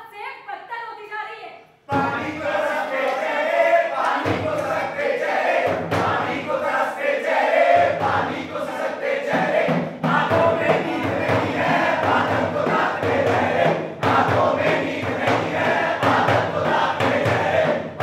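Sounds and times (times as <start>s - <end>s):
frame drum beating: 1.9s - 2.8s, 4.1s - 18.0s
group of voices singing: 1.9s - 18.0s.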